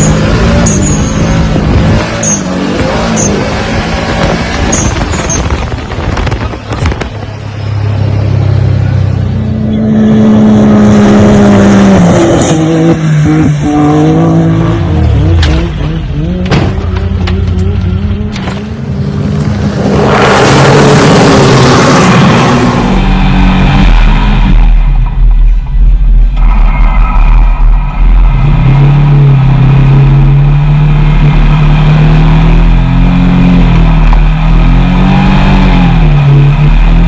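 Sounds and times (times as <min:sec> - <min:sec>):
off-road vehicle engines revving: 0:00.0 - 0:25.0, 0:26.3 - 0:37.0.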